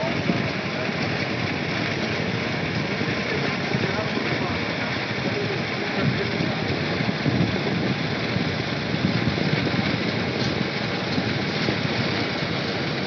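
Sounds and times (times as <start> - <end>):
cable car running noise: 0.0 - 13.0
wind on microphone: 0.0 - 13.0.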